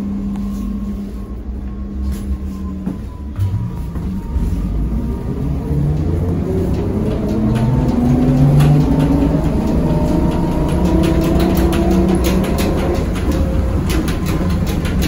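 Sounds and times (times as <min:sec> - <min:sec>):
road noise rumbling: 0:00.0 - 0:15.0.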